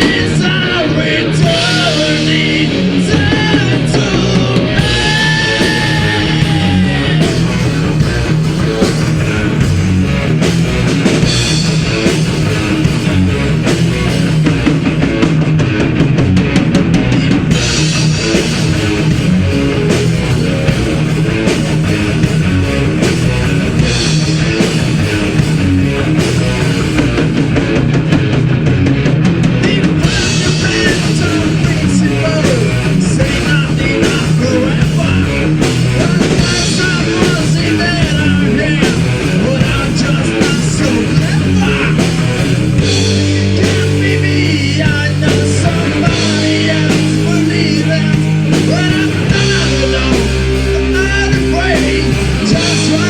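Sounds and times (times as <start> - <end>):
bass guitar: 0.0 - 53.0
distorted electric guitars: 0.0 - 53.0
fast drum kit: 0.0 - 53.0.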